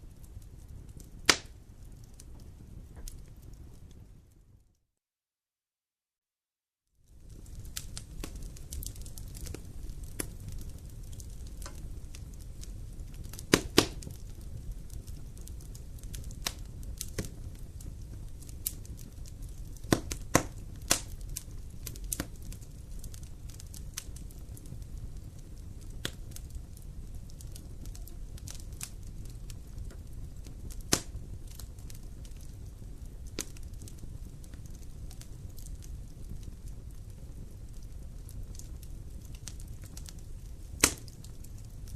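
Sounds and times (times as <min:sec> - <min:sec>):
campfire crackling and popping: 0:00.0 - 0:04.6, 0:07.1 - 0:41.9.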